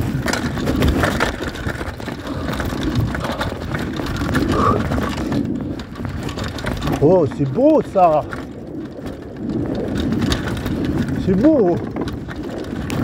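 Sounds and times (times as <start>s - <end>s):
bike rattling and knocking: 0.0s - 13.0s
tyres rumbling on dirt and stones: 0.0s - 13.0s.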